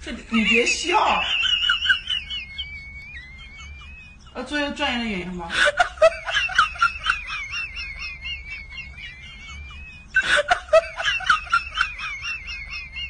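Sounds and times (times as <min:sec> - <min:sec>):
snickering laughter: 0:00.3 - 0:04.4, 0:05.4 - 0:13.0.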